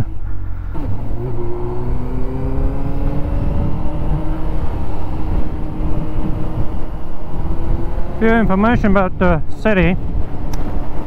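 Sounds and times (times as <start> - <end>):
motorcycle engine accelerating: 0.0 - 11.0
road rumble: 0.0 - 11.0
wind: 0.0 - 11.0.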